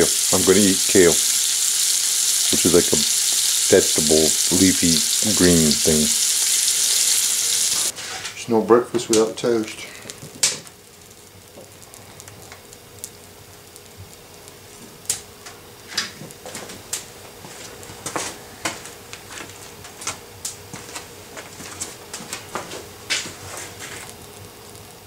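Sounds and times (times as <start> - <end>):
wood stove crackling: 0.0 - 25.0.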